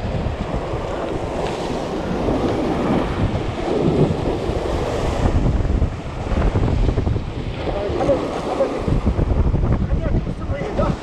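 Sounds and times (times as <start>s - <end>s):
surf breaking on rocks: 0.0s - 11.0s
wind buffeting microphone: 0.0s - 11.0s.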